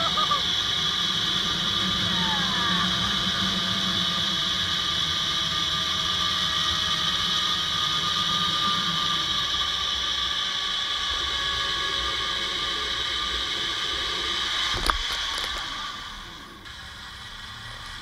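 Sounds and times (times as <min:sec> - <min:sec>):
zipline pulley whirring: 0:00.0 - 0:18.0.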